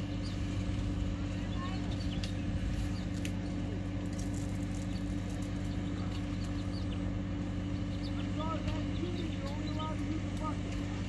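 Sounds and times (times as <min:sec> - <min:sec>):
loader engine idling: 0:00.0 - 0:11.0.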